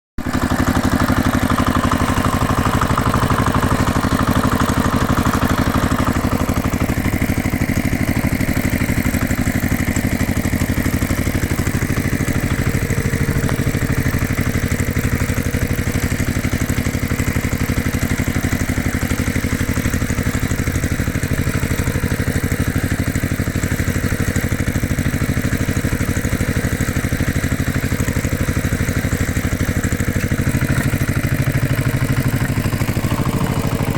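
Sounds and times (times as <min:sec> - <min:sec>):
tractor engine idling: 0:00.2 - 0:33.9.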